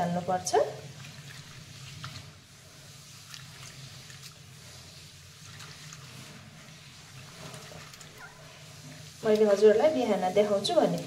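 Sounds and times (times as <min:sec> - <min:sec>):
wet swishing of hands in water: 0:00.8 - 0:11.0.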